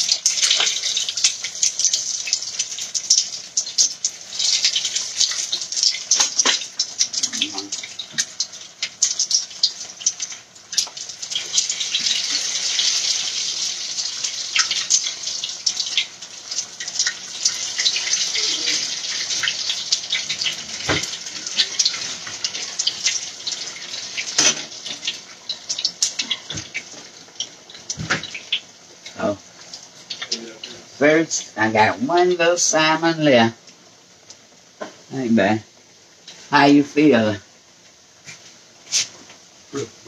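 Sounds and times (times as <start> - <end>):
food frying in hot oil: 0.0 - 40.0.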